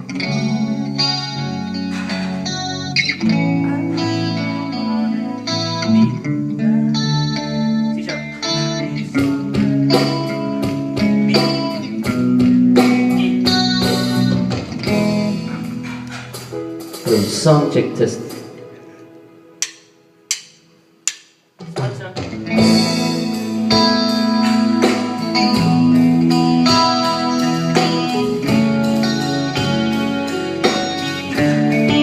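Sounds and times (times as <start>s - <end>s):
electric guitar with effects: 0.0s - 20.2s, 22.2s - 32.0s.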